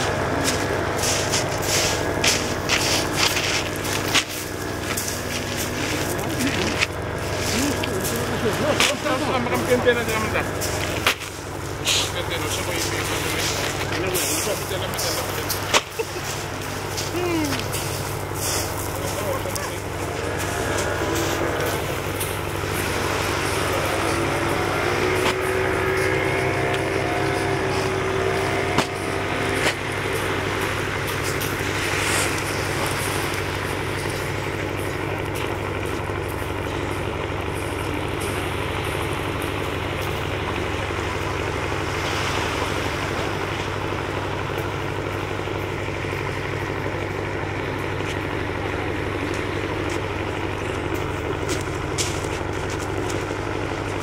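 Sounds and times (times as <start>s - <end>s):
boat engines humming: 0.0s - 54.0s.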